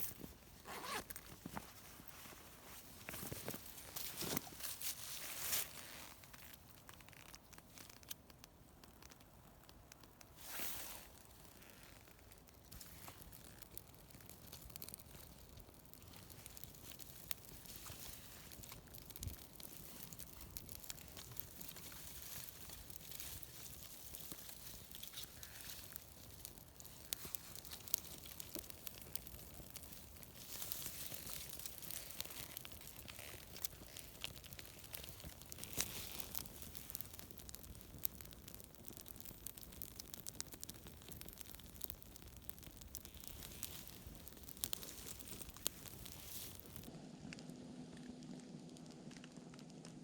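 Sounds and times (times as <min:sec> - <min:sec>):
rustling and crinkling: 0:00.0 - 0:46.9
small crackles and clicks: 0:00.0 - 0:50.0.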